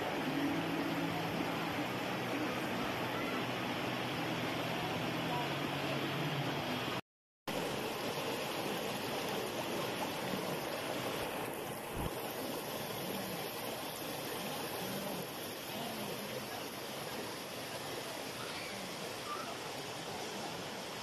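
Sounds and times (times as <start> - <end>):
river water rushing over boulders: 0.0 - 21.0.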